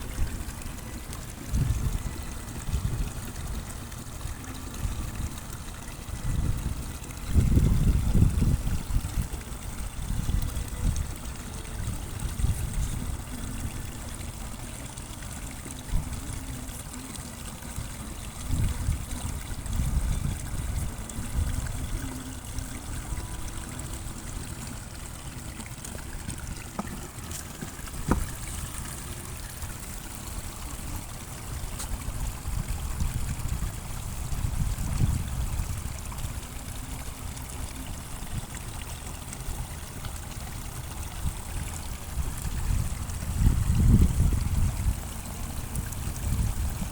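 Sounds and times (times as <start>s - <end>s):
water trickling: 0.0s - 46.9s.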